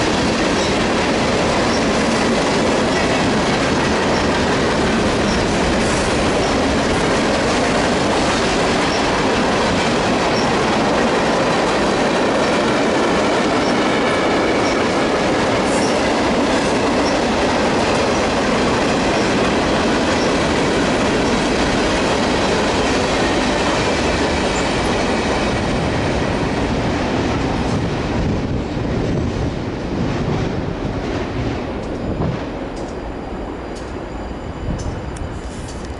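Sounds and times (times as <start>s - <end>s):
freight train rumble and clatter: 0.0s - 35.9s.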